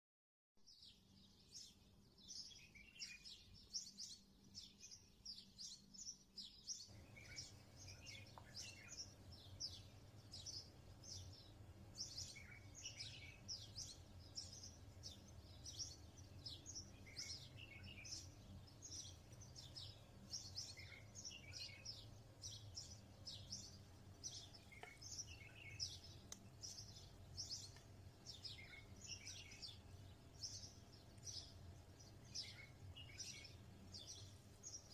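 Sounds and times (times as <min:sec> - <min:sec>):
small birds chirping: 0:00.6 - 0:34.9.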